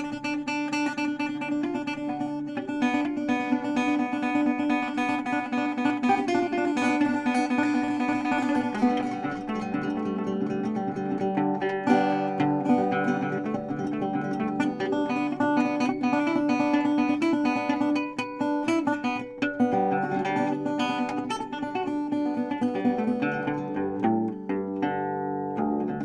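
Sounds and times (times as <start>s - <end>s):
acoustic guitar plucked and strummed: 0.0s - 26.0s.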